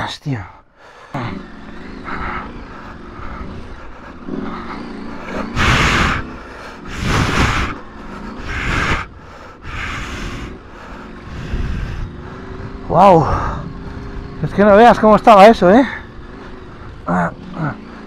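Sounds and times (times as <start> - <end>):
motorcycle engine at low revs: 0.6 - 18.0.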